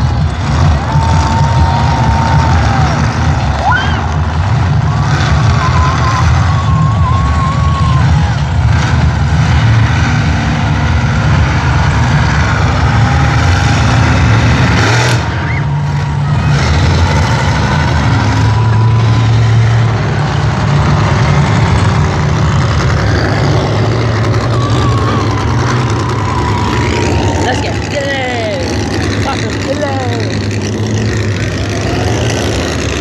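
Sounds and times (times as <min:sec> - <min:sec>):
truck engine deep rumble: 0:00.0 - 0:33.0.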